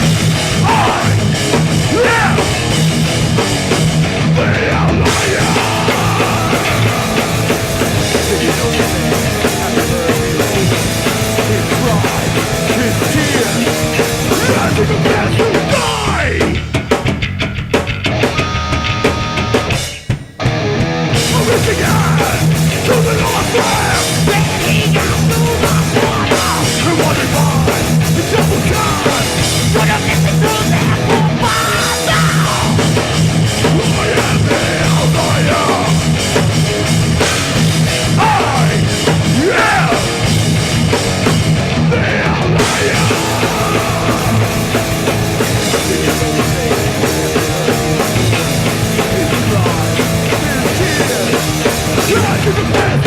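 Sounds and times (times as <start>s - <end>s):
punk band playing live: 0.0s - 53.0s.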